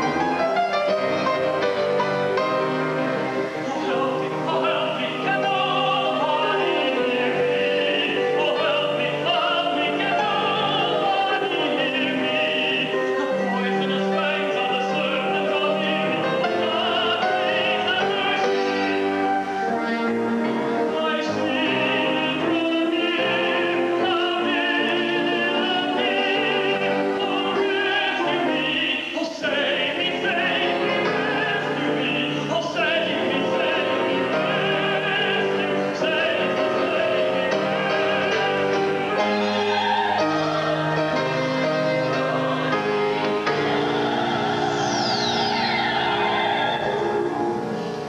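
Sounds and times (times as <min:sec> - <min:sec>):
orchestral accompaniment: 0:00.0 - 0:48.0
opera singing: 0:03.3 - 0:48.0.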